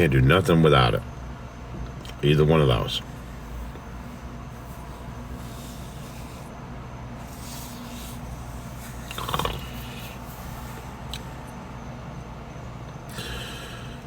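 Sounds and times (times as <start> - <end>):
faint hum: 0.0 - 14.0
low rumble and hiss: 0.0 - 14.0.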